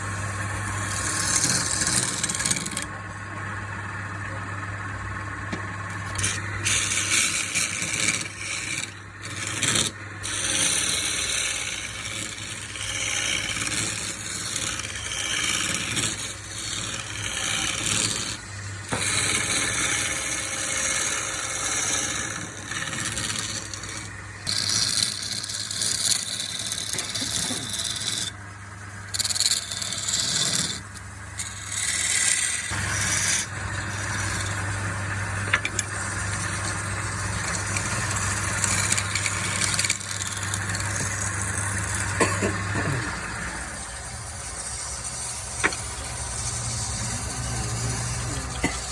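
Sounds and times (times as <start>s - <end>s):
tool rasping on wood: 0.0s - 3.0s, 5.6s - 48.9s
steady low hum: 0.0s - 48.9s.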